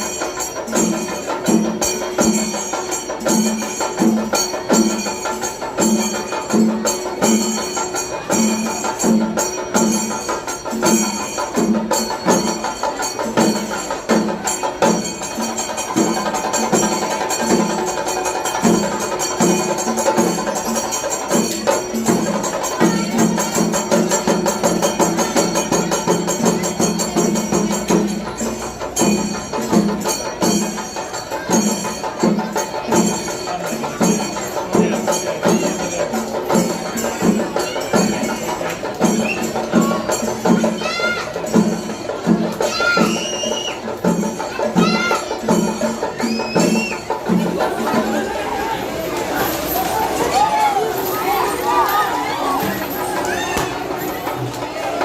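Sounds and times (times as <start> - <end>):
drums and cymbals playing a beat: 0.0 - 55.0.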